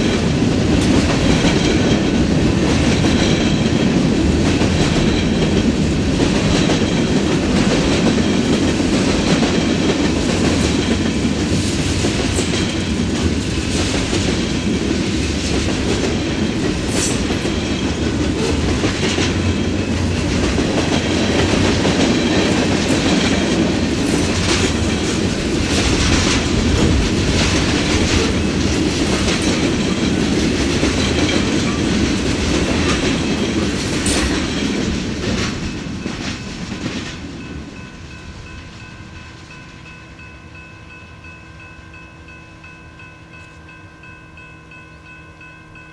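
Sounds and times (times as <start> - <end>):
wheels clacking over rail joints: 0.0 - 37.4
steel wheels rumbling on rail: 0.0 - 45.9.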